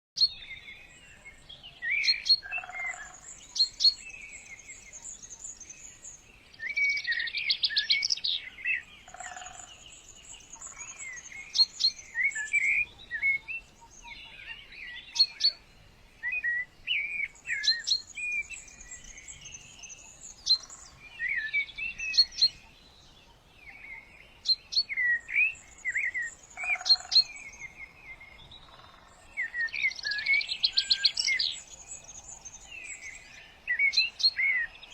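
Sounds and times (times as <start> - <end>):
songbird chirping and trilling: 0.2 - 34.9.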